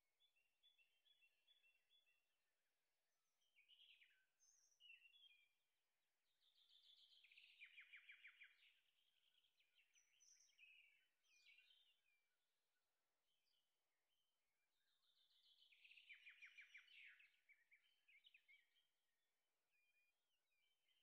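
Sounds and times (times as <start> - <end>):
faint birdsong chirping: 0.0 - 21.0
quiet outdoor background noise: 0.0 - 21.0.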